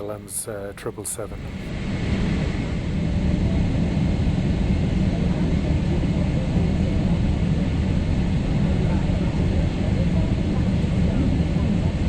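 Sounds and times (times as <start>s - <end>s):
jet engines starting up: 0.0s - 12.0s.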